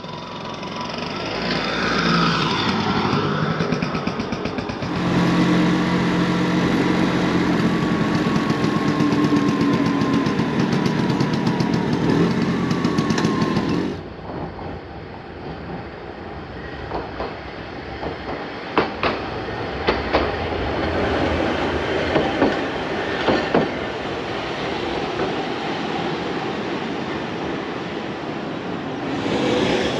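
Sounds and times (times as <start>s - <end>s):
wheels clicking on rails: 0.0s - 28.1s
streetcar motor hum and whine: 0.0s - 29.9s
streetcar rolling noise: 0.0s - 29.9s.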